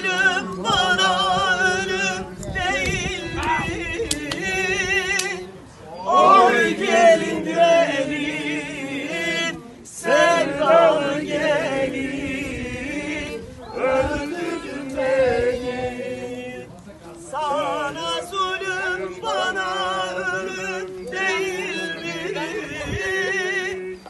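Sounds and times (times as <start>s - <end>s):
group singing without instruments: 0.0s - 24.0s.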